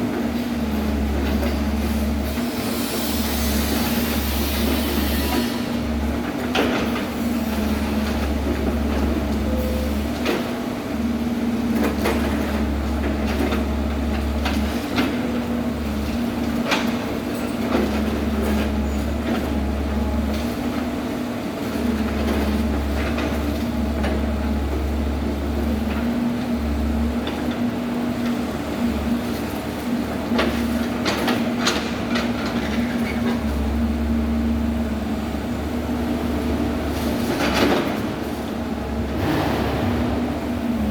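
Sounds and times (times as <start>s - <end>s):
construction machinery diesel drone: 0.0s - 40.9s.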